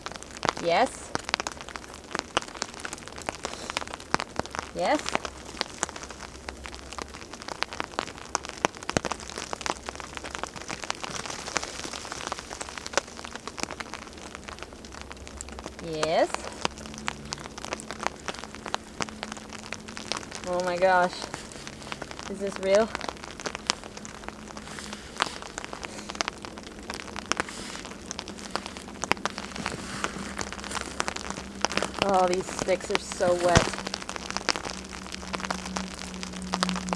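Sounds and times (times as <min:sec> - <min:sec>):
crackling wood fire: 0:00.0 - 0:36.9
drops ticking on a surface: 0:00.0 - 0:36.9
rain falling: 0:00.0 - 0:36.9.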